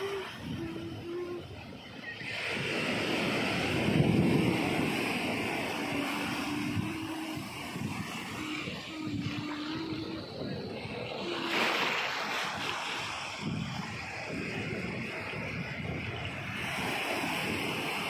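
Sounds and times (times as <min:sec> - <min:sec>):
sea surf breaking on shore: 0:00.0 - 0:18.0.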